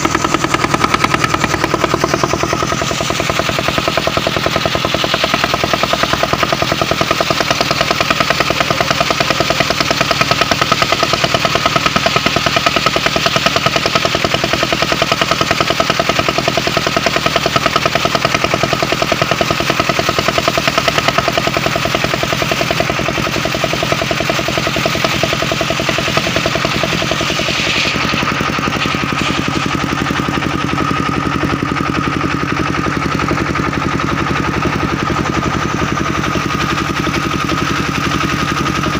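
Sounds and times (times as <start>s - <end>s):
saw blade cutting log: 0.0s - 38.9s
sawmill engine pulsing: 0.0s - 38.9s.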